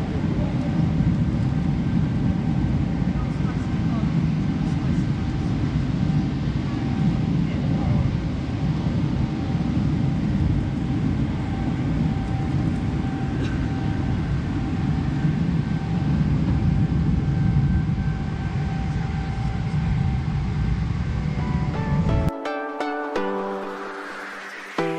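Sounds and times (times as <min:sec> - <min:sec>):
jet engine and airflow rumble: 0:00.0 - 0:24.9.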